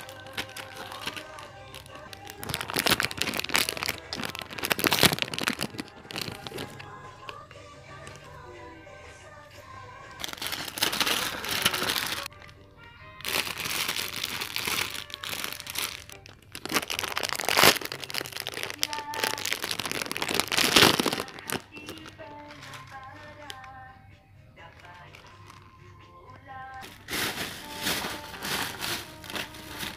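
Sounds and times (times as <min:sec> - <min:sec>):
plastic packaging crinkling: 0:00.0 - 0:07.4, 0:10.2 - 0:12.6, 0:13.2 - 0:23.7, 0:24.6 - 0:25.8, 0:26.8 - 0:29.9
soft background music: 0:00.0 - 0:29.9.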